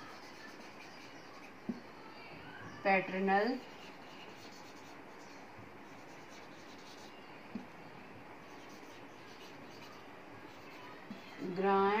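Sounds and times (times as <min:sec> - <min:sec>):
marker pen on whiteboard: 0:00.0 - 0:01.8, 0:03.1 - 0:07.8, 0:08.4 - 0:12.0.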